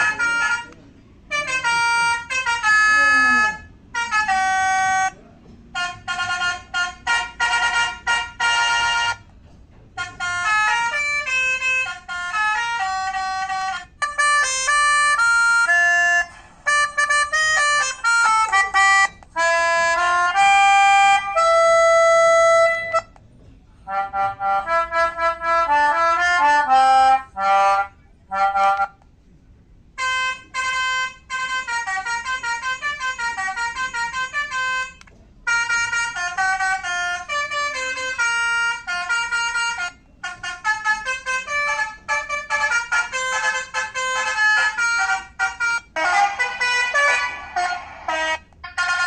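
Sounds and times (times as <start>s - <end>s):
multi-tone bus horn melodies: 0.0s - 23.2s, 23.8s - 29.0s, 29.9s - 49.0s.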